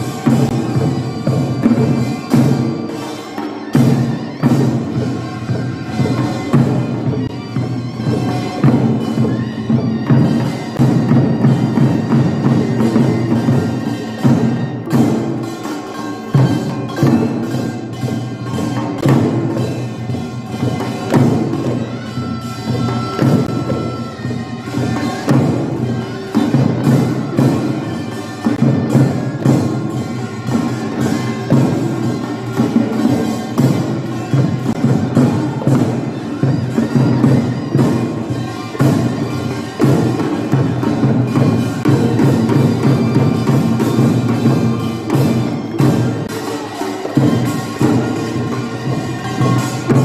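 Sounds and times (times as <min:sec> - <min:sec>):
drums beaten in driving rhythm: 0:00.0 - 0:50.0.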